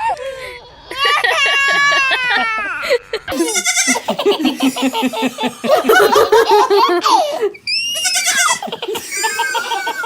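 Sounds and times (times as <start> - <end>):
young child laughing: 0.9 - 10.0.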